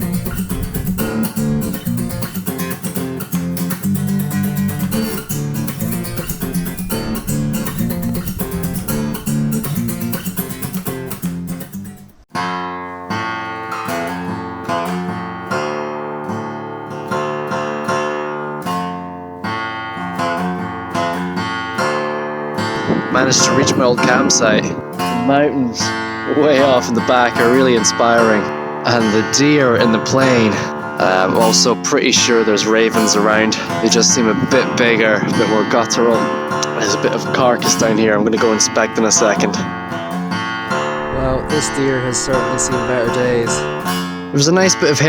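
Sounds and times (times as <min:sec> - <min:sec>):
acoustic guitar music: 0:00.0 - 0:45.0.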